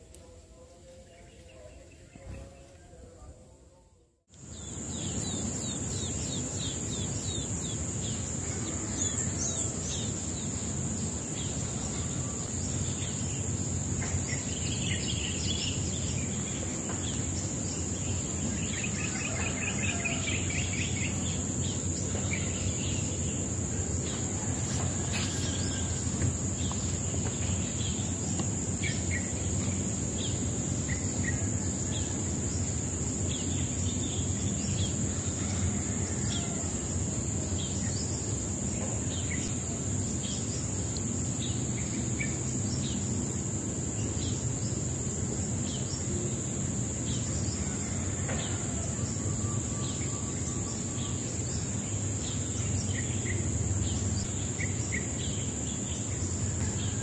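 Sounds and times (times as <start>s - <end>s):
high-pitched insect drone: 4.4s - 57.0s
low outdoor rumble: 4.4s - 57.0s.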